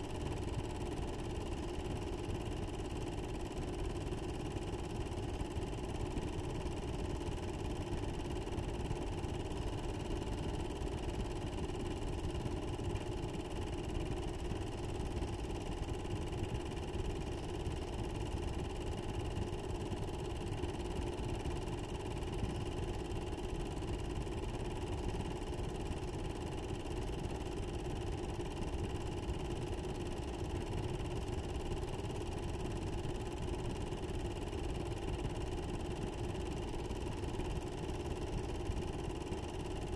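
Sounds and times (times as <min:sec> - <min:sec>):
machine hum and whir: 0:00.0 - 0:39.9.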